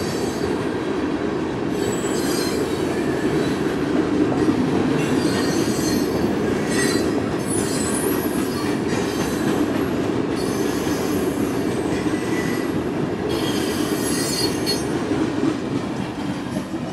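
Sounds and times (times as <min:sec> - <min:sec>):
train wheels rumbling on track: 0:00.0 - 0:16.9.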